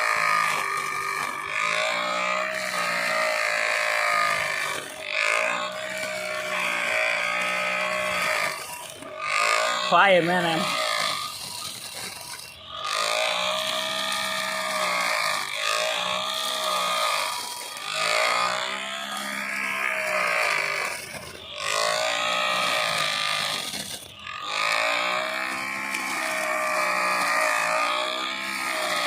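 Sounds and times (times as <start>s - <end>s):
grass trimmer motor whining: 0.0s - 29.0s.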